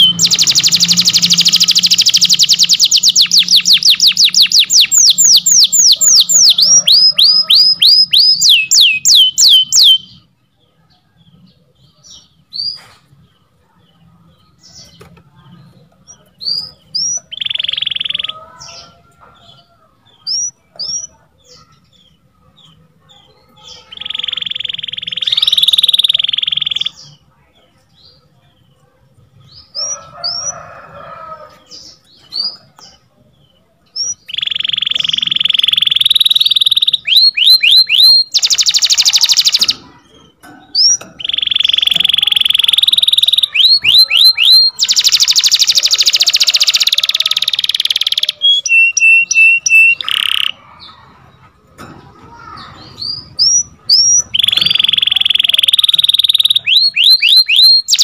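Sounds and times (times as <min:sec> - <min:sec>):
canary chirps: 0:00.0 - 0:58.0
canary singing: 0:00.0 - 0:58.0.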